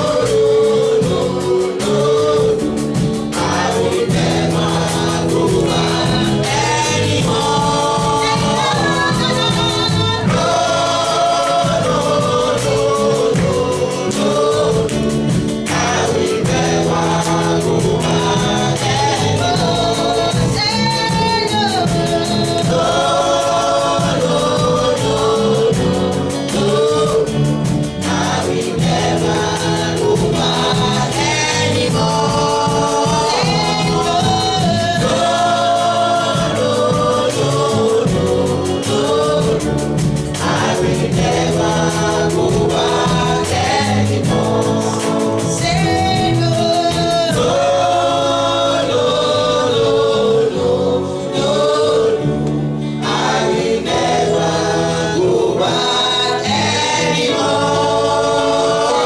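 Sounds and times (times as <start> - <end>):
band with steady beat: 0.0 - 50.8, 51.6 - 59.0
choir and congregation singing: 0.0 - 59.0.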